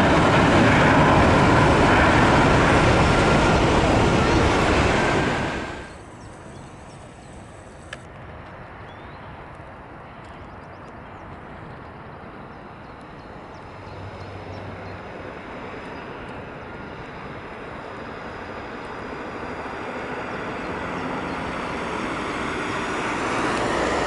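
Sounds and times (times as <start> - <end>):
distant jet engines rumbling: 0.0 - 24.0.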